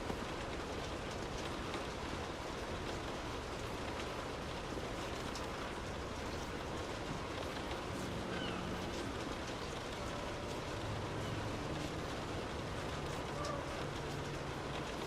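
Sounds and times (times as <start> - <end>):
raindrops tapping on a surface: 0.0 - 15.0
steady rain hiss: 0.0 - 15.0.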